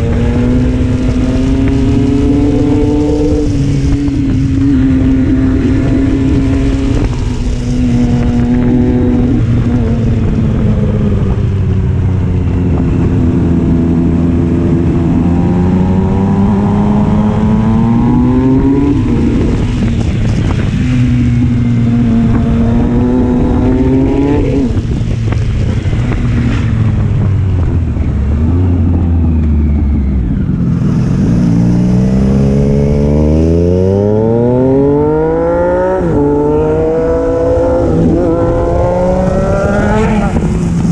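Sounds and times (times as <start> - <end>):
motorcycle engine accelerating: 0.0 - 40.9
wind rush: 0.0 - 40.9.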